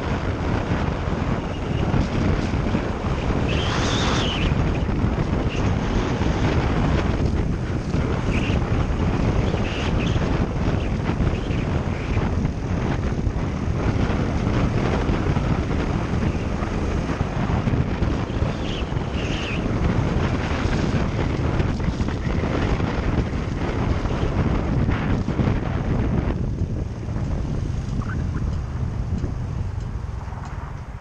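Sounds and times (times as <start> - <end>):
motorcycle engine: 0.0 - 31.0
wind buffeting microphone: 0.0 - 31.0.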